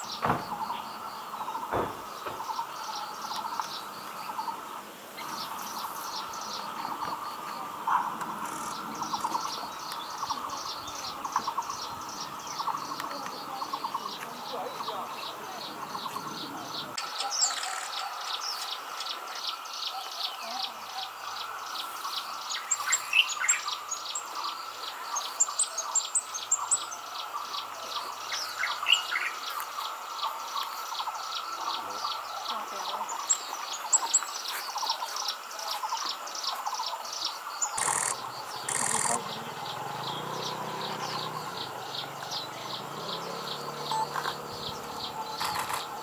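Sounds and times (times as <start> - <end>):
pulsing insect chorus: 0.0 - 46.0
small birds chirping: 0.0 - 46.0.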